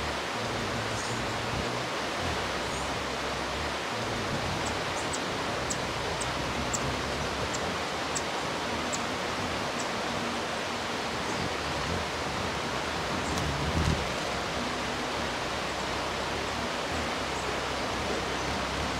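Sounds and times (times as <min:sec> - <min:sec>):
steady rushing noise: 0:00.0 - 0:18.9.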